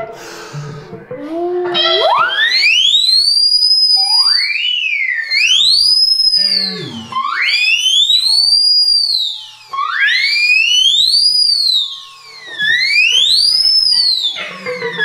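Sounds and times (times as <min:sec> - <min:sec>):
high whistle-like sliding tone: 0:01.6 - 0:15.0.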